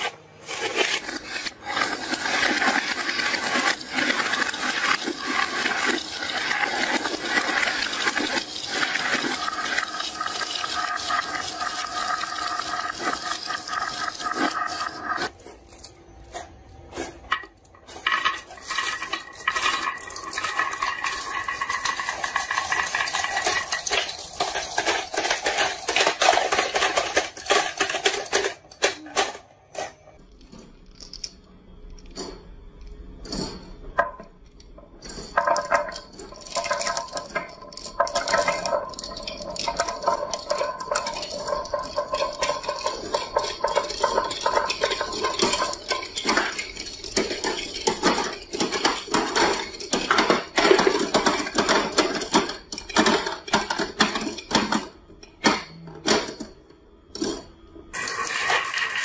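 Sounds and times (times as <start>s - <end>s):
marbles clattering on tracks: 0.0s - 59.0s.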